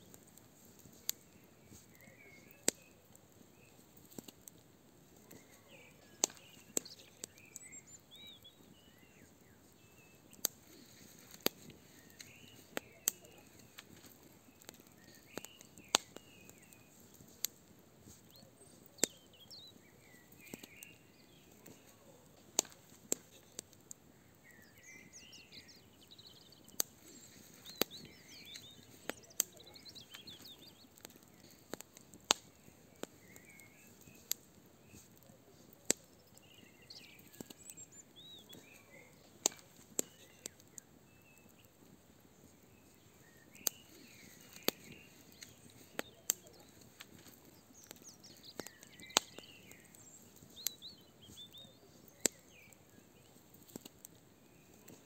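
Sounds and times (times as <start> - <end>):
fire crackling and popping: 0.0 - 55.0
songbirds chirping: 0.0 - 55.0.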